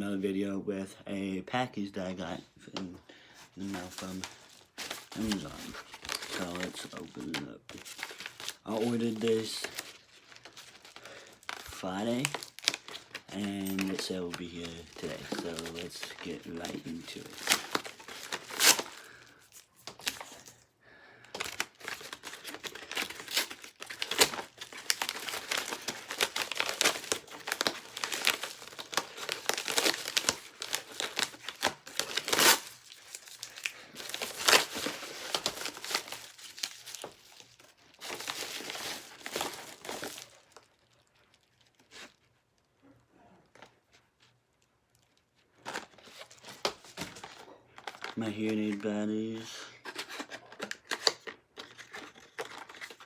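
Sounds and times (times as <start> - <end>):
package being torn open: 3.6 - 20.6, 21.3 - 42.3, 45.0 - 48.8, 49.8 - 53.0.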